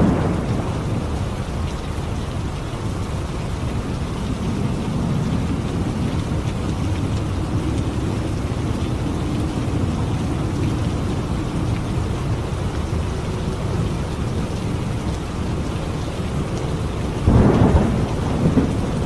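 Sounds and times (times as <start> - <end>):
heavy rainfall: 0.0 - 19.0
rolling rumble of thunder: 0.0 - 19.0.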